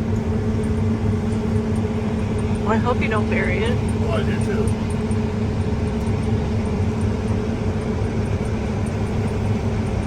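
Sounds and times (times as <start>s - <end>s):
vehicle engine and road drone: 0.0s - 10.0s.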